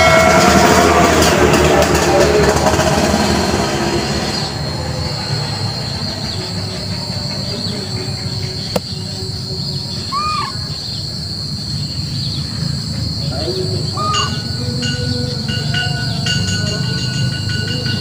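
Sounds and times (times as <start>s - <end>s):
high-pitched insect drone: 3.5s - 18.0s.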